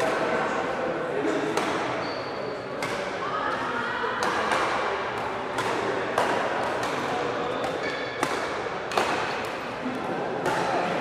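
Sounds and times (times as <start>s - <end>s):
background chatter: 0.0s - 11.0s
rackets hitting shuttlecock: 1.3s - 11.0s.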